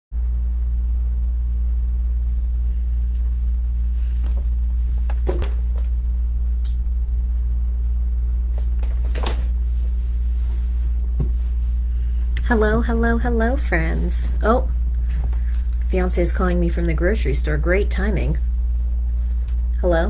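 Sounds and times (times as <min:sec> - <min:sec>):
low electrical hum: 0:00.1 - 0:20.0.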